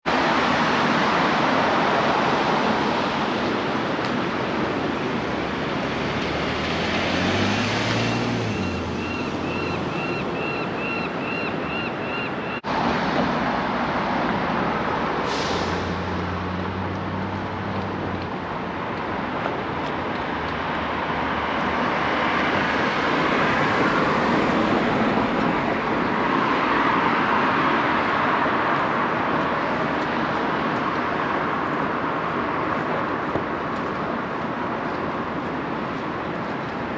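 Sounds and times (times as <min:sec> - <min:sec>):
heavy vehicle engines passing: 0:00.0 - 0:36.9
street traffic noise: 0:00.0 - 0:36.9.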